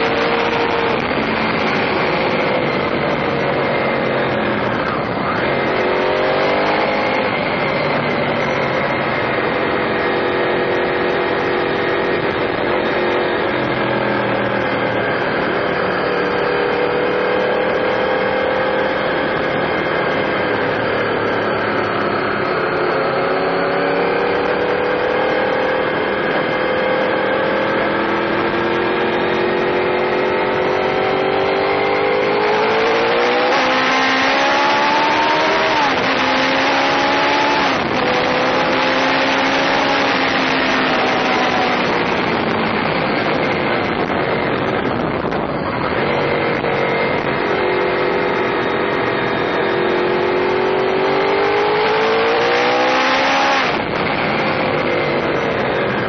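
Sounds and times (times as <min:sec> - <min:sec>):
motorcycle engine accelerating: 0:00.0 - 0:56.0
wind on microphone: 0:00.0 - 0:56.0.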